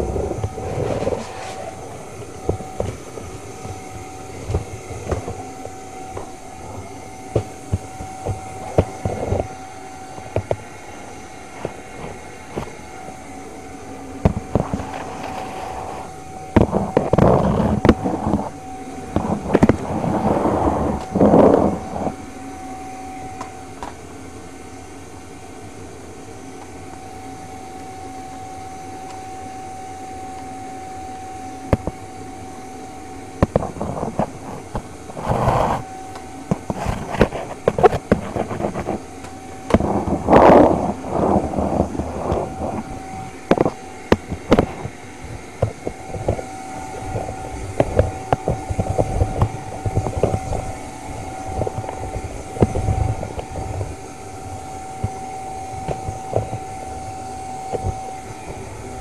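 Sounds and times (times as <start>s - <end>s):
vacuum cleaner whining: 0.0s - 59.0s.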